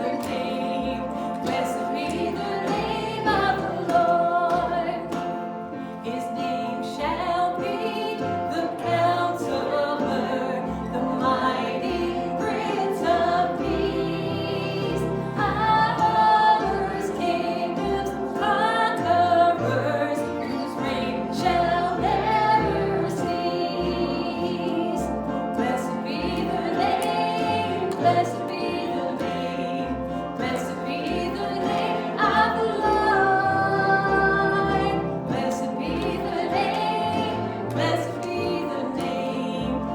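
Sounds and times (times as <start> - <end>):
light percussion: 0.0 - 39.9
several voices singing worship song: 0.0 - 39.9.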